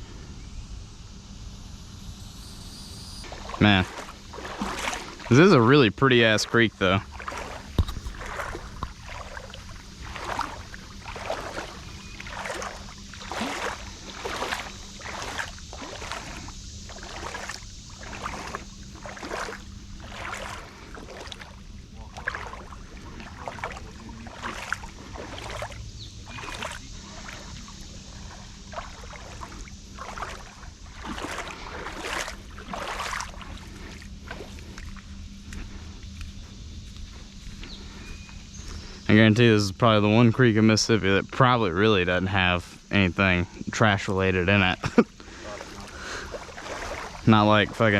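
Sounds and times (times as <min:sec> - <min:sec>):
legs wading through water: 0:03.2 - 0:40.9, 0:41.8 - 0:47.9.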